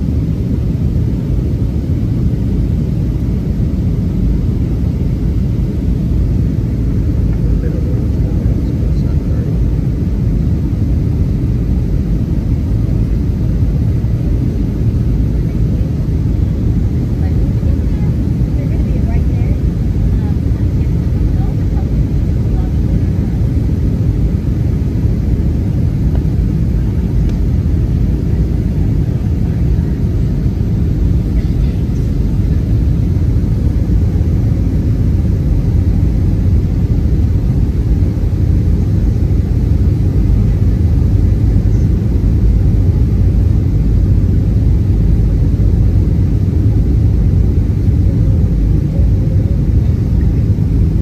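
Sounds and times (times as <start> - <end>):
air rushing along fuselage: 0.0 - 51.0
jet engines rumbling: 0.0 - 51.0.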